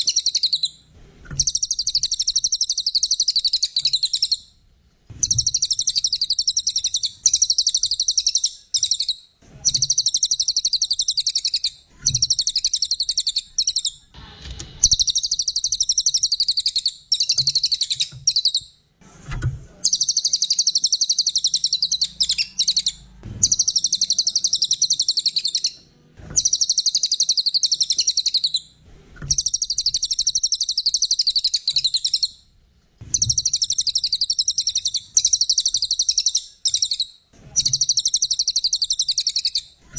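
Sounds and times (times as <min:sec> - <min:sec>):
songbird chattering song: 0:00.0 - 0:00.8, 0:01.4 - 0:04.5, 0:05.2 - 0:14.1, 0:14.8 - 0:18.7, 0:19.8 - 0:25.8, 0:26.4 - 0:28.7, 0:29.3 - 0:32.4, 0:33.1 - 0:39.9.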